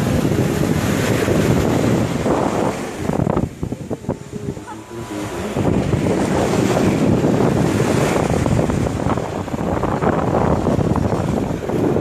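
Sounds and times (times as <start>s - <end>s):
waves rushing over ground: 0.0s - 12.0s
wind buffeting microphone: 0.0s - 12.0s.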